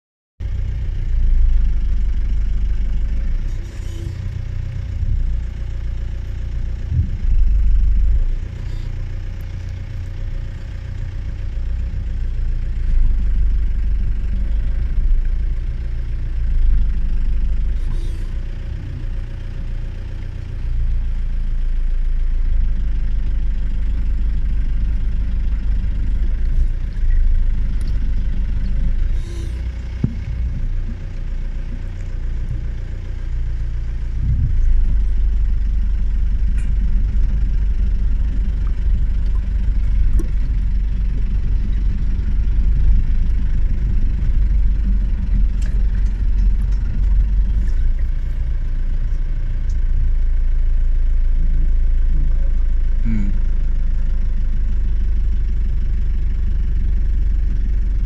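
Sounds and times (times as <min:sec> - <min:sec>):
vehicle engine idling: 0:00.4 - 0:58.0.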